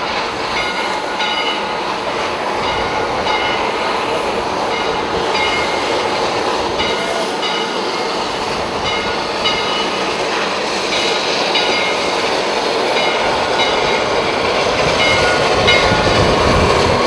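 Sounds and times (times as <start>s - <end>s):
steam hissing: 0.0s - 17.0s
steam locomotive running: 0.0s - 17.0s.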